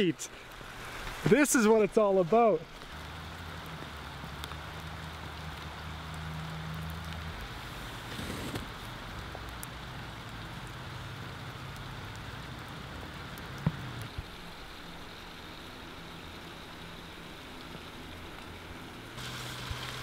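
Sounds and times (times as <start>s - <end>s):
forest creek rushing: 0.0s - 20.0s.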